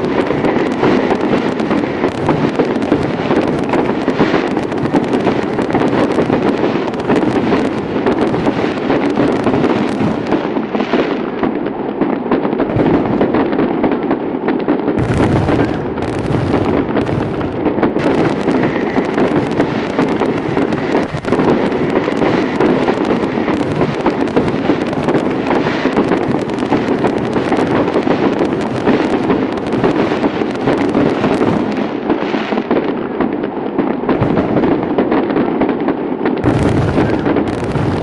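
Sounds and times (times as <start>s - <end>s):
deep fireworks booms: 0.0s - 38.0s
fireworks crackling and banging: 0.0s - 38.0s.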